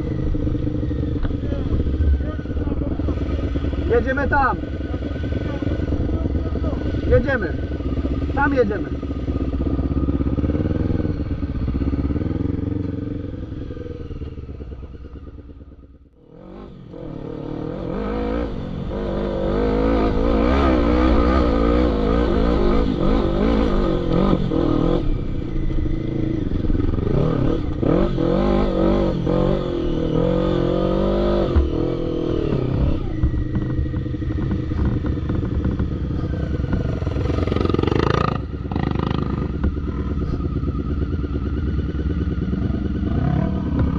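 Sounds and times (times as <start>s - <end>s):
quad bike engines revving: 0.0s - 43.9s.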